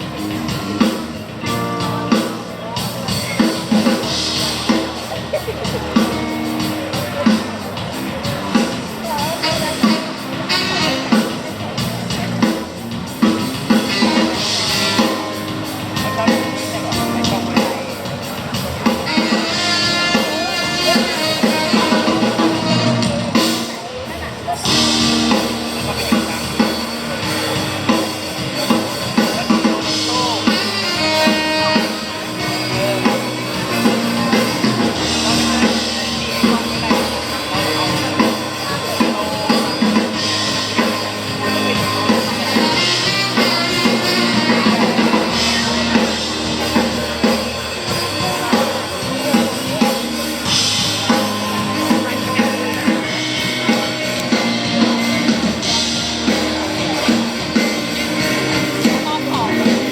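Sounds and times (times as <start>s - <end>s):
drum kit beat: 0.0s - 59.9s
electric guitar: 0.0s - 59.9s.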